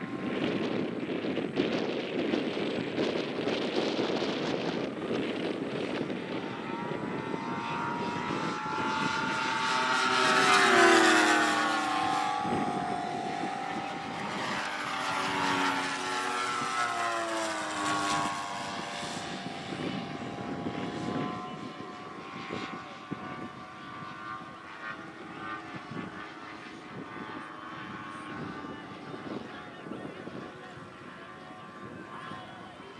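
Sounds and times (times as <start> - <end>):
model plane propeller engines: 0.0 - 32.9.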